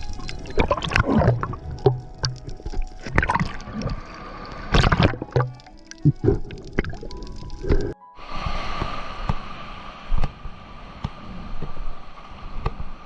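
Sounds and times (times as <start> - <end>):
water splashing and gurgling: 0.0 - 13.0.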